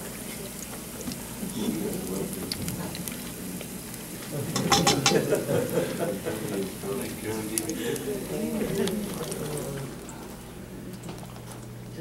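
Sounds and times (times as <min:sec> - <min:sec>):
fish deep-frying in hot oil: 0:00.0 - 0:10.1.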